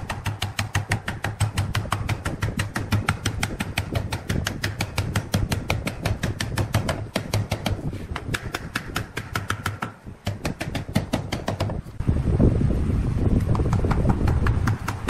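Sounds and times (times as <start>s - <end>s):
small hammer tapping wood: 0.0s - 11.8s, 13.5s - 15.0s.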